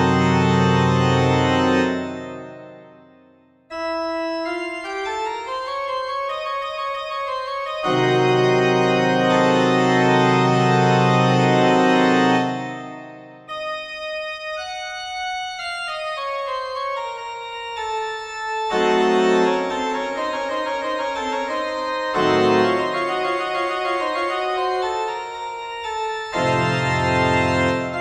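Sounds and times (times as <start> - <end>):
organ-like keyboard chords: 0.0 - 28.0.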